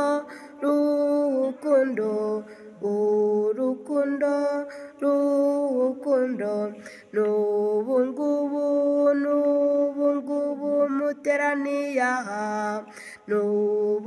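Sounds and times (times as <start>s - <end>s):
woman singing a hymn: 0.0s - 14.0s.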